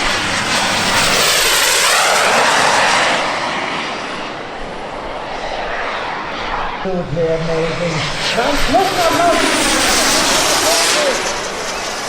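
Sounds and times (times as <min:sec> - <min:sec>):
model jet turbines whooshing: 0:00.0 - 0:12.0.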